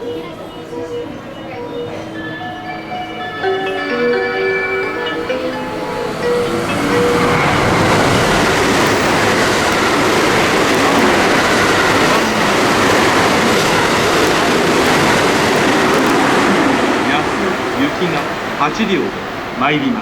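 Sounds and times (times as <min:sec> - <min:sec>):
train rushing past: 0:00.0 - 0:20.0.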